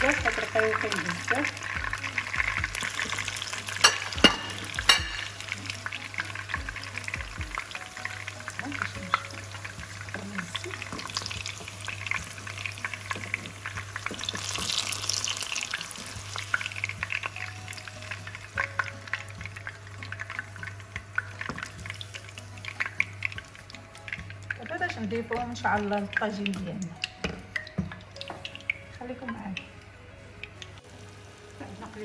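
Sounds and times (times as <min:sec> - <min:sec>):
wooden spoons turning food: 0:00.0 - 0:31.0
peppers sizzling in hot oil: 0:00.0 - 0:32.0.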